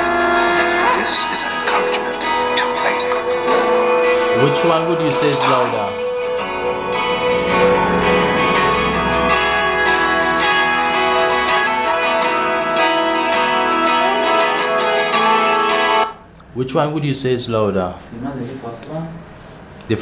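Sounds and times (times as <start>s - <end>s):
strummed guitar music from speaker: 0.0s - 16.2s.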